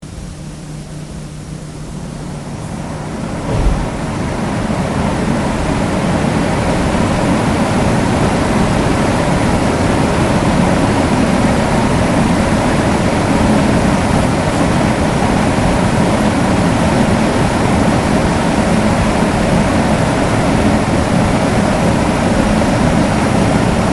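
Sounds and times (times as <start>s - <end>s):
electric fan rushing air: 0.0s - 23.9s
faint hum: 0.0s - 23.9s.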